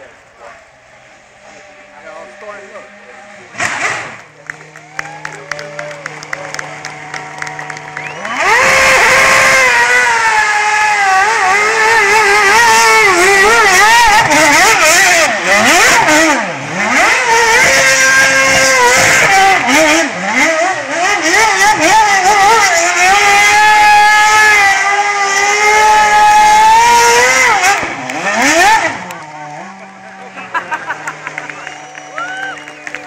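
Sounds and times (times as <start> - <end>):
racing car engine revving hard: 0.0 - 33.0.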